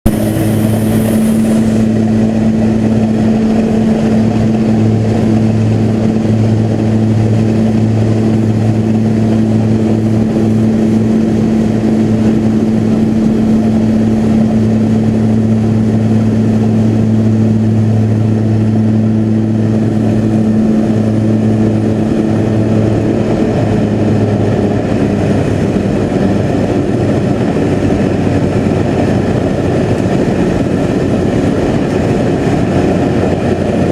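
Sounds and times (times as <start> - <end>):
floatplane engine and propeller: 0.0 - 33.9.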